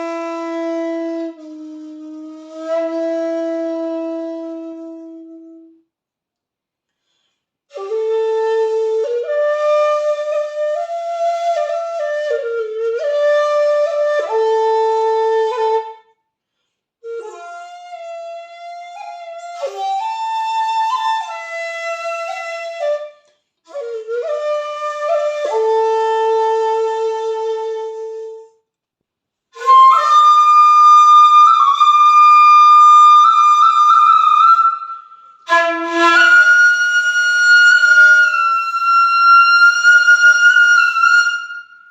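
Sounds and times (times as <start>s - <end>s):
bamboo flute playing: 0.0s - 5.8s, 7.7s - 16.2s, 17.0s - 28.6s, 29.5s - 41.9s.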